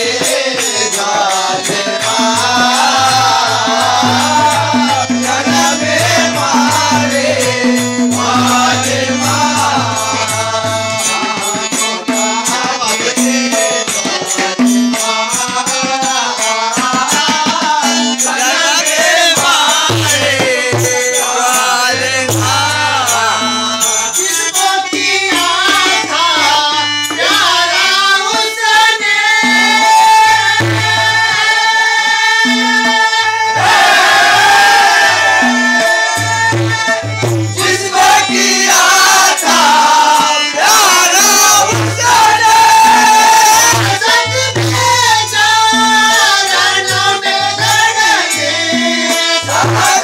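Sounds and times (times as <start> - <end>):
harmonium: 0.0 - 50.0
man singing devotional song: 0.0 - 50.0
tabla drumming: 0.0 - 50.0.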